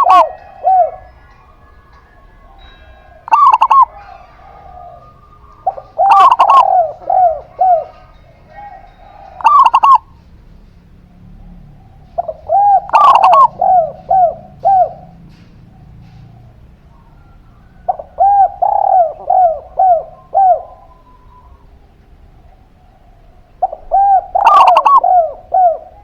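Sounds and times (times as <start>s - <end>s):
doves cooing: 0.0s - 26.0s.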